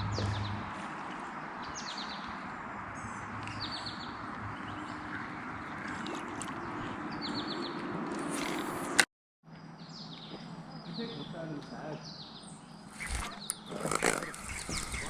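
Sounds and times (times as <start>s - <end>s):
bird chirping: 0.0s - 8.8s, 9.5s - 15.0s
outdoor noise: 0.0s - 15.0s.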